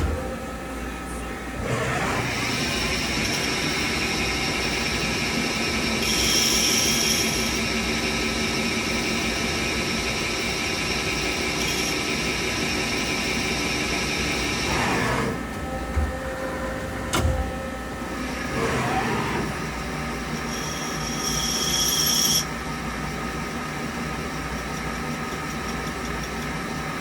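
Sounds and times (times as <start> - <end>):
lathe spindle whine: 0.0 - 27.0.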